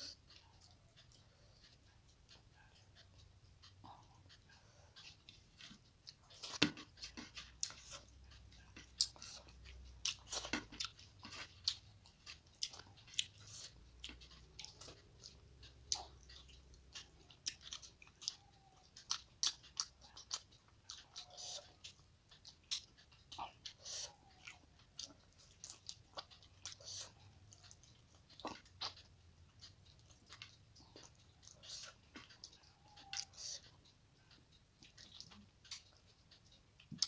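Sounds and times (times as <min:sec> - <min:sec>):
moist chewing and lip smacks: 0:00.0 - 0:37.0.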